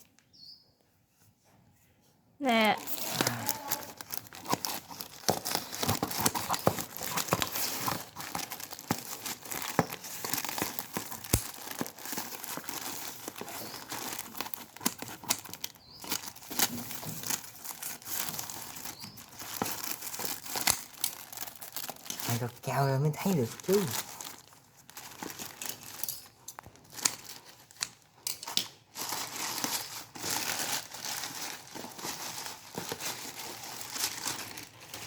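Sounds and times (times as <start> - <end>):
parcel packaging crinkling and tearing: 2.4 - 35.0.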